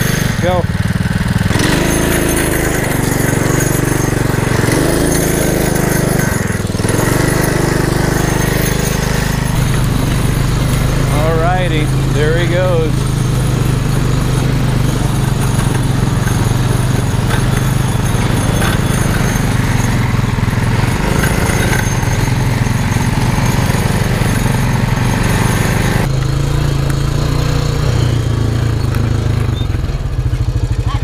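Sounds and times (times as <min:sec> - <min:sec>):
go-kart engine running: 0:00.0 - 0:31.0.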